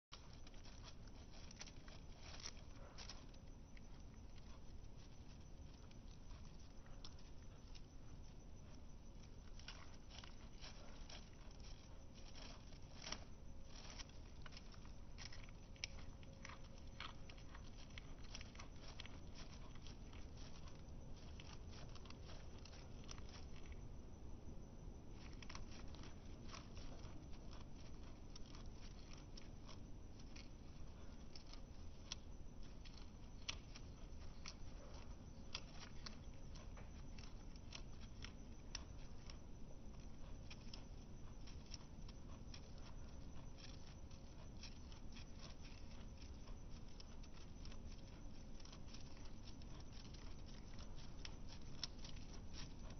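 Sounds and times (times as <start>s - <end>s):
guinea pig chewing hay: 0.0s - 52.9s.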